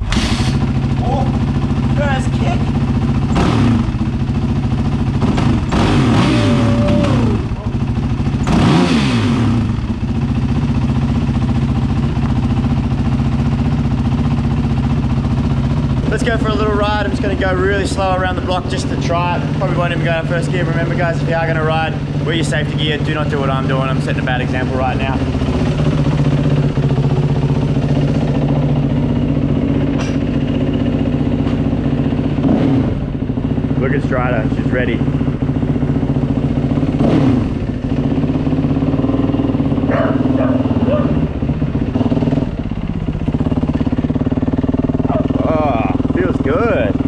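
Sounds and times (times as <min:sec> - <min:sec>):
dirt bike engine idling: 0:00.0 - 0:47.0.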